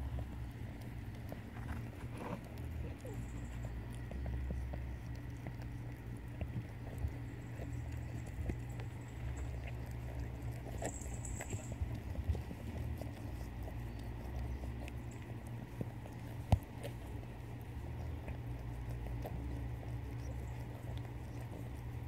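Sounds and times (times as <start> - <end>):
cat licking kitten: 0.0 - 22.0.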